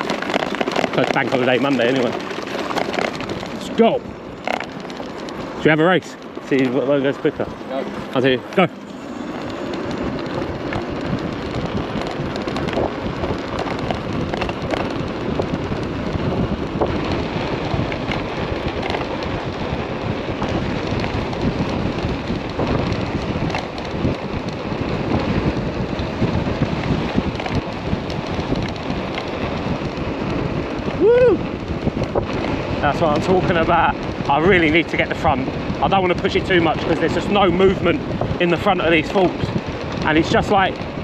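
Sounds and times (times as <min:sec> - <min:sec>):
road and tyre noise: 0:00.0 - 0:41.0
wind buffeting microphone: 0:00.0 - 0:41.0.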